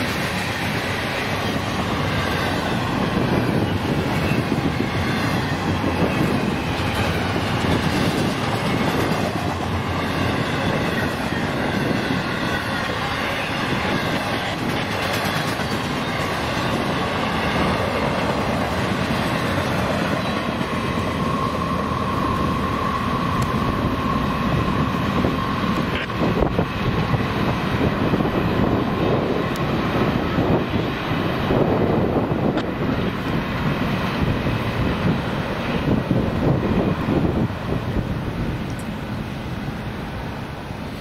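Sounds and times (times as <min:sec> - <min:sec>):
train wheels clacking on rails: 0:00.0 - 0:37.5.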